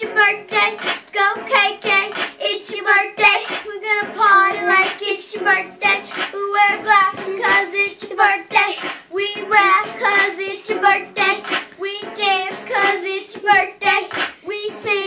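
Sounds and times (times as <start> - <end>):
girl singing into a microphone: 0.0 - 15.0.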